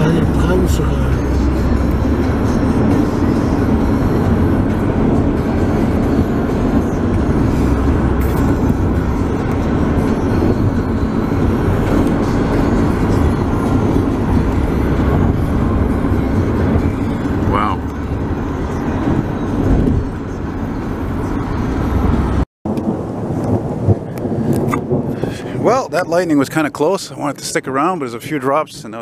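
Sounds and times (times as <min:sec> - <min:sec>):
car interior road rumble: 0:00.0 - 0:29.0.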